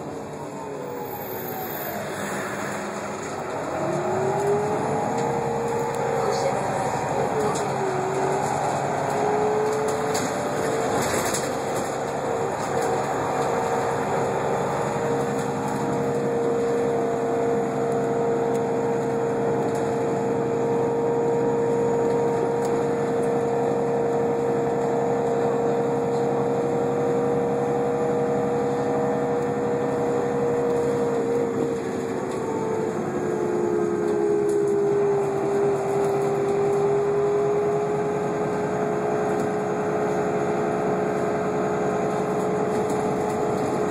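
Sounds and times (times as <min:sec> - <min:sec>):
bus drivetrain whine: 0:00.0 - 0:43.9.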